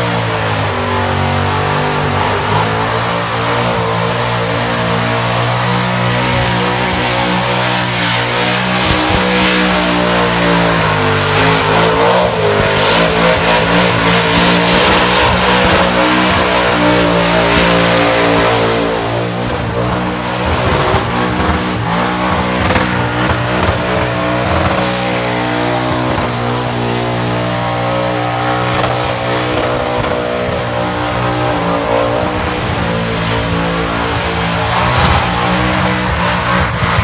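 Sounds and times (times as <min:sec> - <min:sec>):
car engine revving high: 0:00.0 - 0:37.0.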